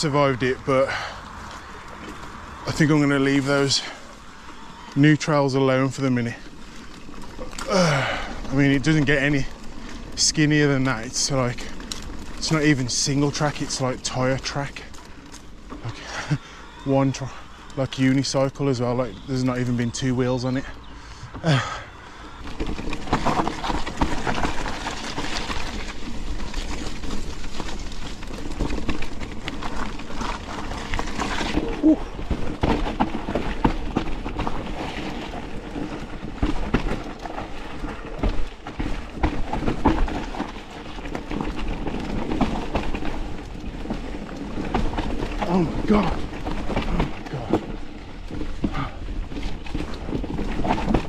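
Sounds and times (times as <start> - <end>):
bike knocking and rattling: 0.0 - 51.0
tyre and wind noise: 0.0 - 51.0.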